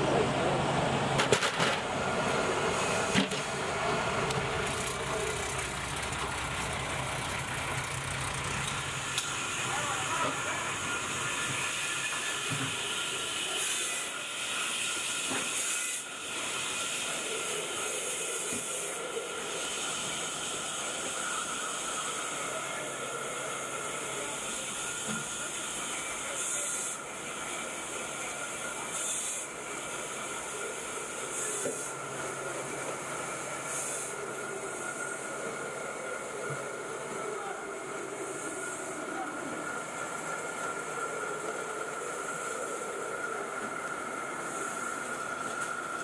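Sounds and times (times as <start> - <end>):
workshop machinery droning: 0.0 - 46.0.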